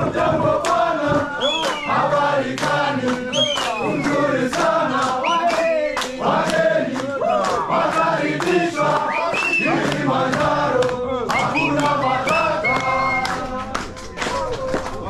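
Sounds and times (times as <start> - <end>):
men chanting and shouting: 0.0 - 15.0.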